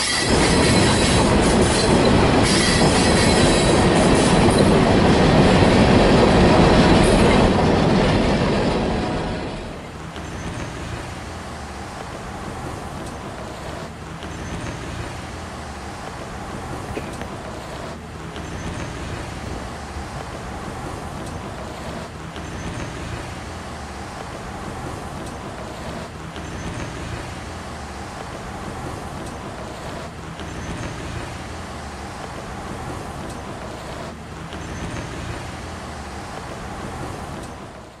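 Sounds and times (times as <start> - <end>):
rumbling vehicle-like noise: 0.0 - 38.0.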